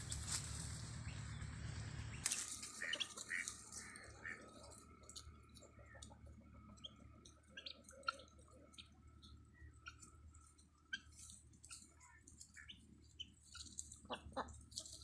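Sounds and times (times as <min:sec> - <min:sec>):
low steady hum: 0:00.0 - 0:15.0
poultry birds chirping: 0:00.0 - 0:15.0.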